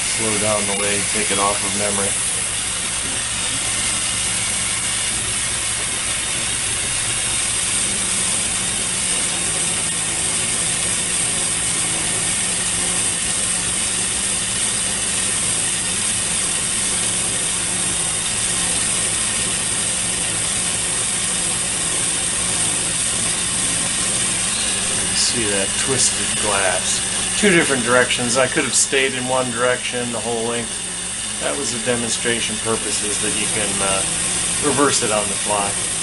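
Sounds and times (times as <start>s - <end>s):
lathe drive humming: 0.0s - 36.0s
torch flame hissing: 0.0s - 36.0s.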